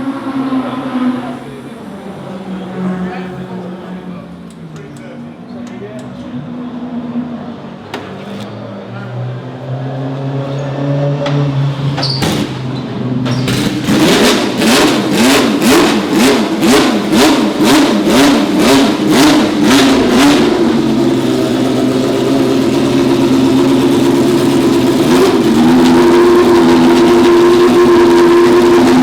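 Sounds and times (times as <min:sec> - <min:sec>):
racing car engine revving: 0:00.0 - 0:05.1, 0:06.1 - 0:29.0.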